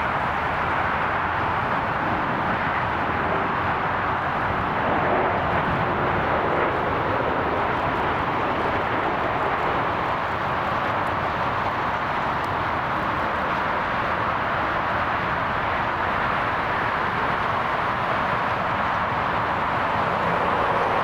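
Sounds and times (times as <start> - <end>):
jet engine rushing: 1.2 - 21.0.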